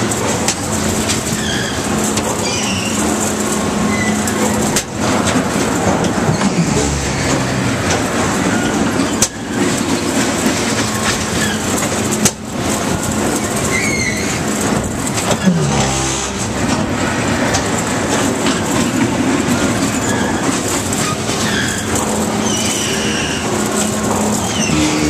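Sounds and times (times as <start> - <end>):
carnival ride machinery clattering: 0.0 - 25.0.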